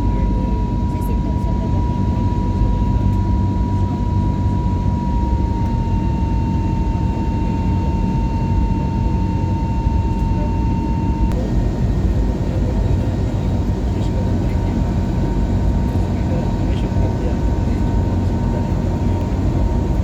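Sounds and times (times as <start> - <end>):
airliner cabin low rumble: 0.0 - 20.0.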